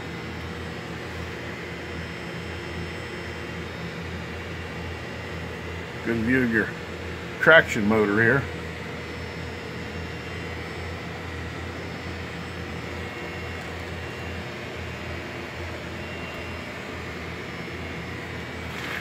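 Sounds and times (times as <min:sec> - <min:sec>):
faint high whine: 0:00.0 - 0:06.8, 0:07.4 - 0:19.0
low machinery hum: 0:00.0 - 0:19.0.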